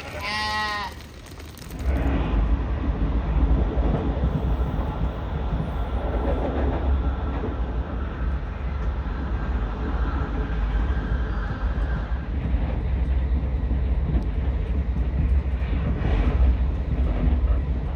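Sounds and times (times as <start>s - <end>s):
vehicle engine rumble: 0.0s - 17.9s.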